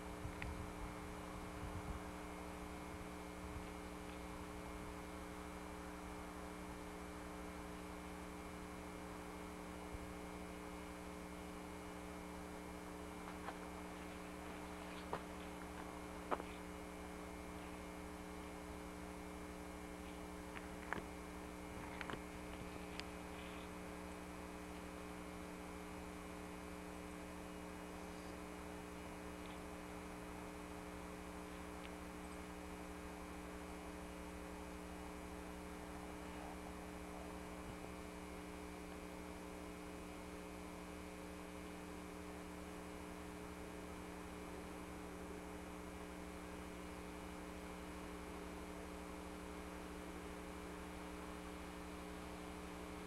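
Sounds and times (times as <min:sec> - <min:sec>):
electrical hum with hiss: 0:00.0 - 0:53.0.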